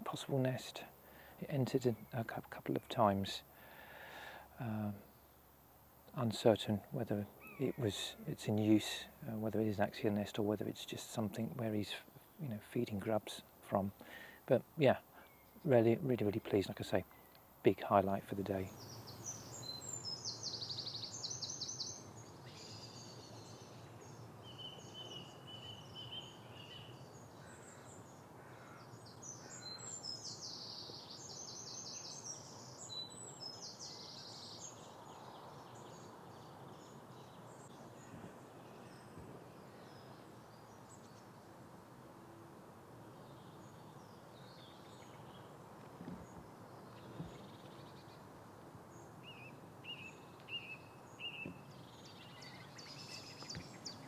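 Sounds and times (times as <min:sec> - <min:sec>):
songbirds singing: 0:00.0 - 0:41.6, 0:43.0 - 0:54.0
faint outdoor background: 0:00.0 - 0:54.0.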